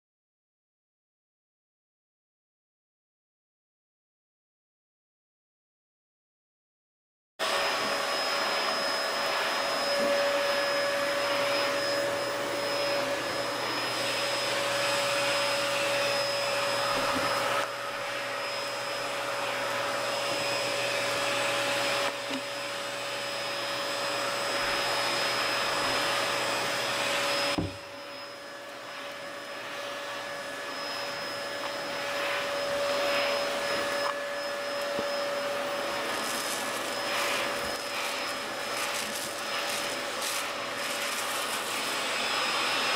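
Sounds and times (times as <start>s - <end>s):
vacuum cleaner whine: 7.4s - 42.9s.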